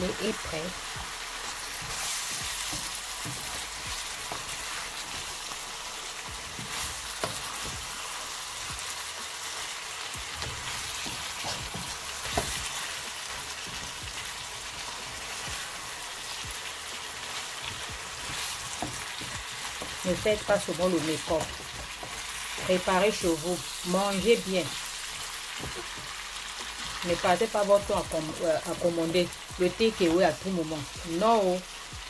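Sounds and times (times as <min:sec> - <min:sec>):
food sizzling in a pan: 0:00.0 - 0:32.0.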